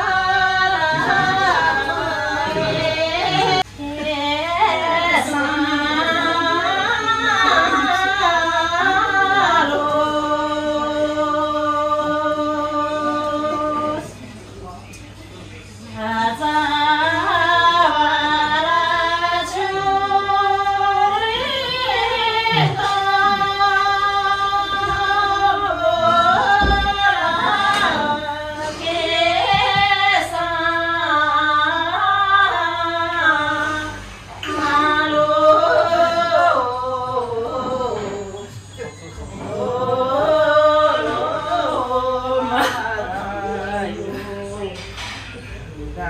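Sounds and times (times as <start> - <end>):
woman singing slow melody: 0.0 - 14.2, 15.9 - 45.3.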